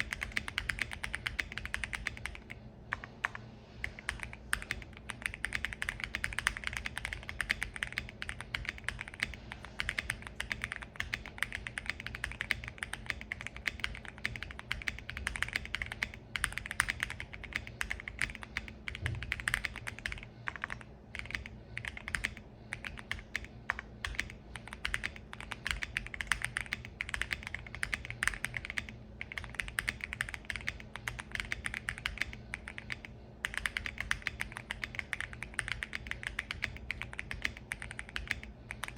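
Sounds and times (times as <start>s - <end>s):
faint low hum: 0.0s - 38.9s
mechanical keyboard typing: 0.0s - 38.9s.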